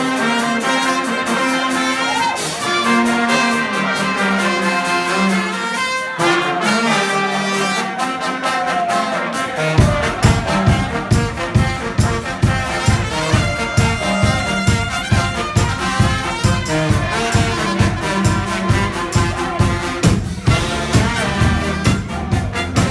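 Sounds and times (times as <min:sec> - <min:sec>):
brass band playing: 0:00.0 - 0:22.9.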